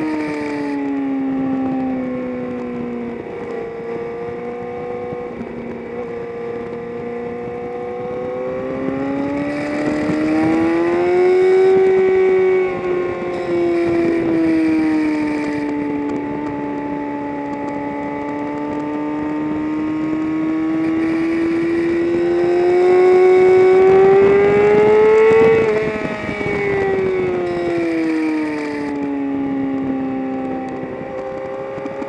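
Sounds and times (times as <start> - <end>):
race car engine: 0.0 - 32.0
wind noise: 0.0 - 32.0.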